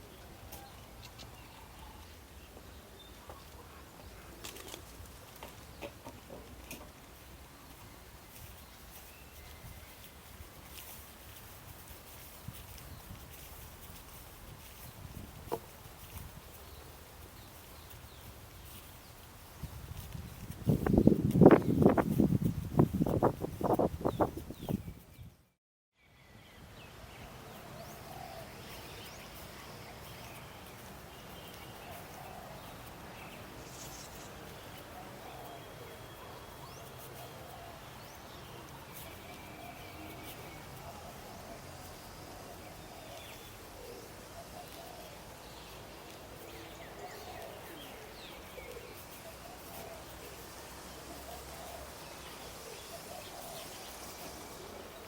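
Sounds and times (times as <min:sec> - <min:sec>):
birds chirping: 0:00.0 - 0:13.6, 0:14.2 - 0:55.0
outdoor background noise: 0:00.0 - 0:55.0.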